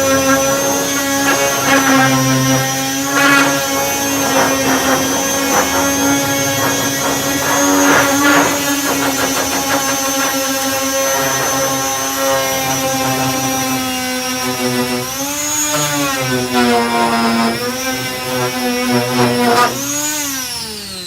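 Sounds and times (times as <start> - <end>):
electric disc sander whining: 0.0 - 21.0.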